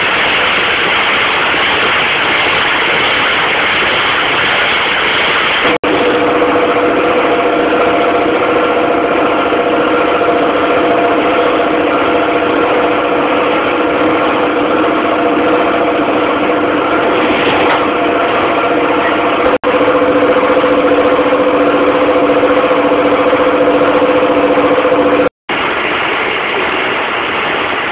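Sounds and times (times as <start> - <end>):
fire engine engine running: 0.0 - 27.9.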